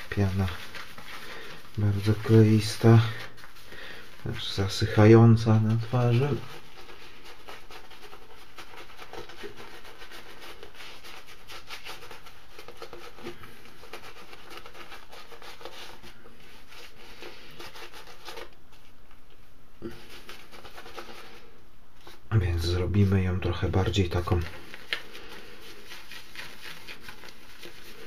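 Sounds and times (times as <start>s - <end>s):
shaving brush whisking lather: 0.0s - 18.6s, 19.9s - 21.5s, 22.4s - 28.0s.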